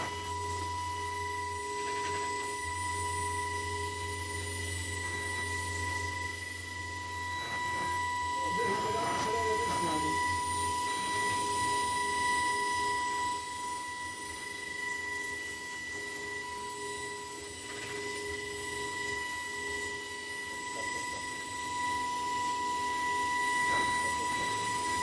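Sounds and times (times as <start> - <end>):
cutting machine high-pitched whine: 0.0 - 25.0
lower machine tone: 0.0 - 25.0.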